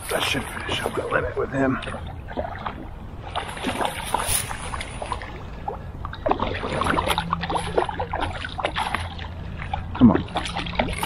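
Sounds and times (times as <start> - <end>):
fish splashing in water: 0.0 - 11.0.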